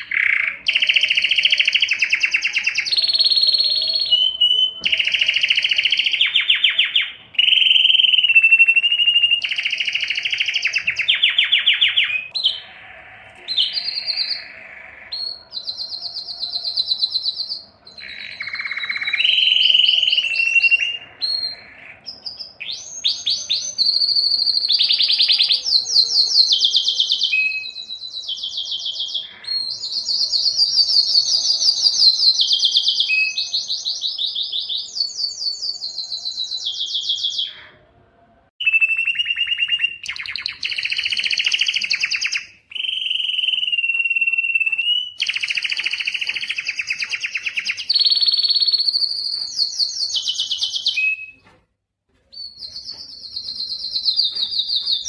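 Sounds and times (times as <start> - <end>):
canary singing trills: 0.0 - 37.9, 38.6 - 51.5, 52.2 - 55.0.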